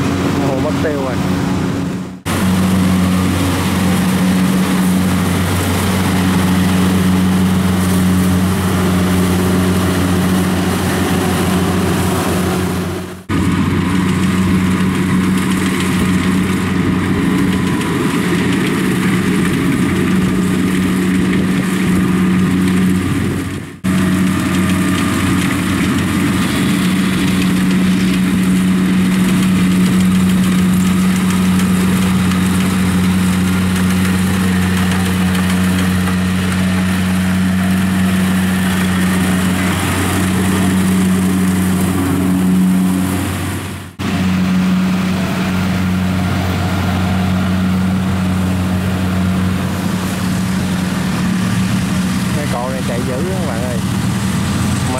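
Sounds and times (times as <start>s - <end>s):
combine harvester droning: 0.0s - 54.9s.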